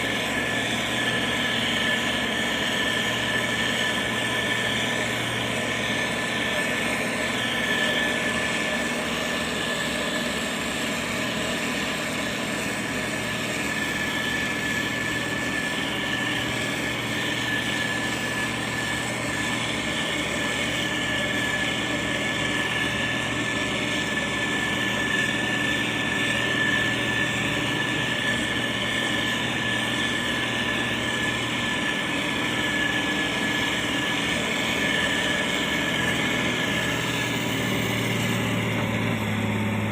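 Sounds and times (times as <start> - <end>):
diesel engine running: 0.0 - 39.9
high-pitched whine: 0.0 - 39.9.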